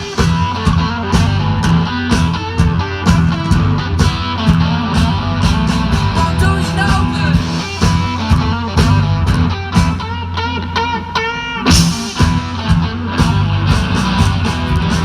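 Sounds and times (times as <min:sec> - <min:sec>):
electric guitar: 0:00.0 - 0:15.0
rock blues band playing: 0:00.0 - 0:15.0.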